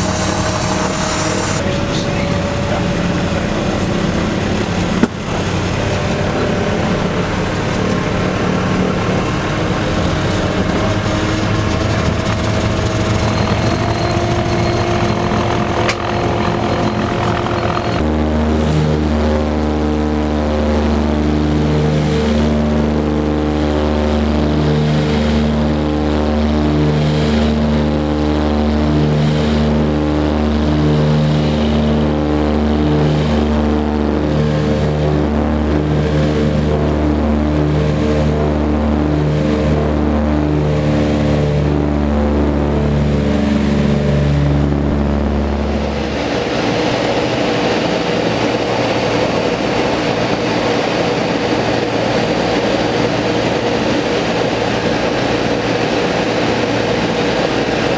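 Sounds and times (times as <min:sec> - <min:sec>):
aircraft piston engines droning: 0:00.0 - 0:57.9.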